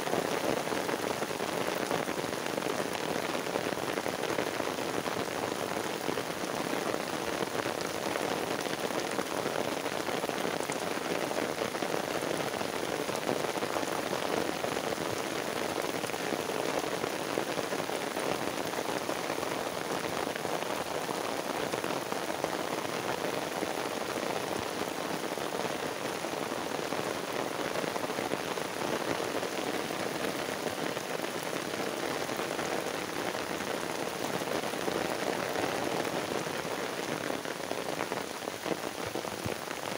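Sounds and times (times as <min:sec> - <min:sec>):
heavy rain splashing: 0:00.0 - 0:39.9.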